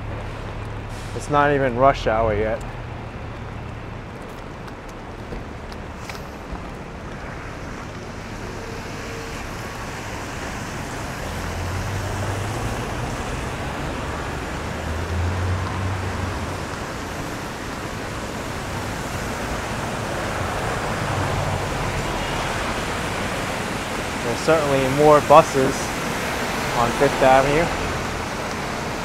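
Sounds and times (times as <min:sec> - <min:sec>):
rumble of passing buses: 0:00.0 - 0:29.0
tyres hissing on wet pavement: 0:00.1 - 0:29.0.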